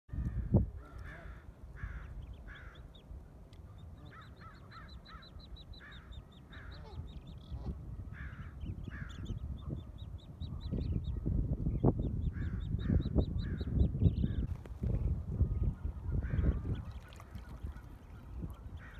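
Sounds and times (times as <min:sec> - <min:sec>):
wind rumble on microphone: 0:00.1 - 0:02.7, 0:05.8 - 0:18.9
ducklings peeping: 0:01.9 - 0:14.5, 0:15.6 - 0:18.9.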